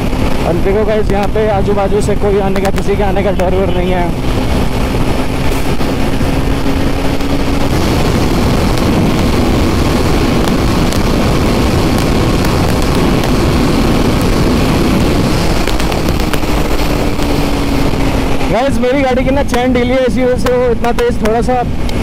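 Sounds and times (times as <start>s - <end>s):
motorcycle engine: 0.0s - 22.0s
wind rush over helmet: 0.0s - 22.0s.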